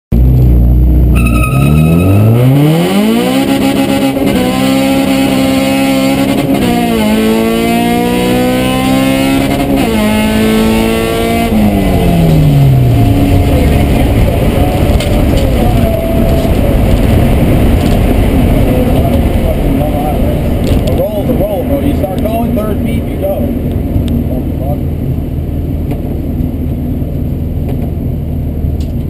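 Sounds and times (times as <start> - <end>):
car engine at full throttle: 0.1 - 29.0.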